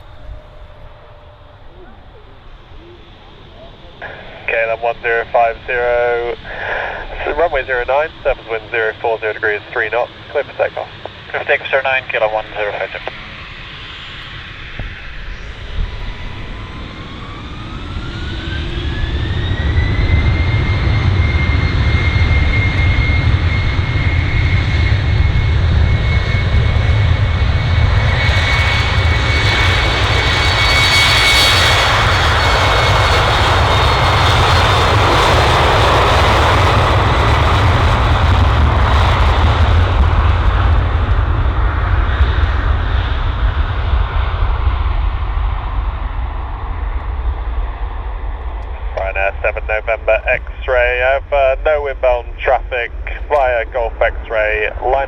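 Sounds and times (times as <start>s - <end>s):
jet engine rumble: 0.0s - 55.0s
jet engines spooling up: 0.0s - 55.0s.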